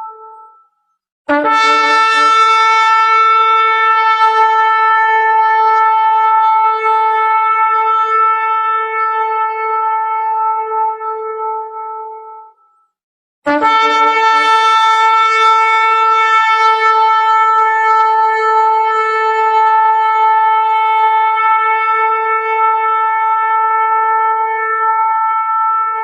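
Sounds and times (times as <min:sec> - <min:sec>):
shofar blast: 0:00.0 - 0:00.6, 0:01.3 - 0:12.7, 0:13.5 - 0:26.0.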